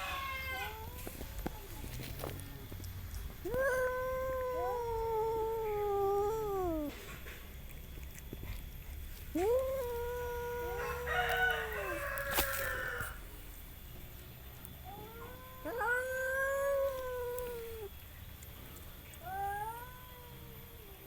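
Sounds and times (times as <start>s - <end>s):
cats yowling: 0.0s - 2.4s, 3.2s - 13.4s, 14.7s - 21.0s.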